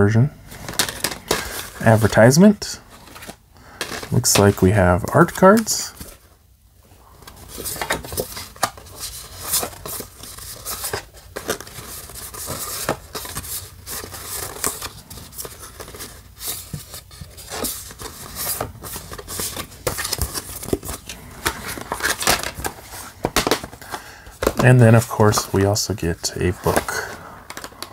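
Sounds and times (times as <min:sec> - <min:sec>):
cards being shuffled: 0:00.5 - 0:06.3, 0:07.2 - 0:27.9.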